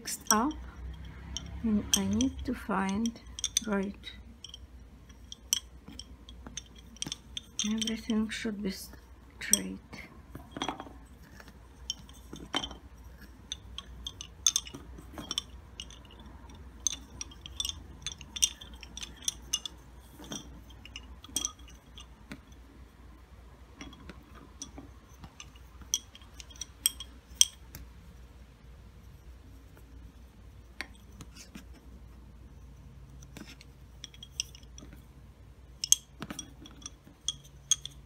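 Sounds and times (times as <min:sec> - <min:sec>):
wooden bobbins clicking together: 0:00.0 - 0:22.6, 0:23.7 - 0:27.9, 0:33.2 - 0:35.1, 0:35.7 - 0:38.0.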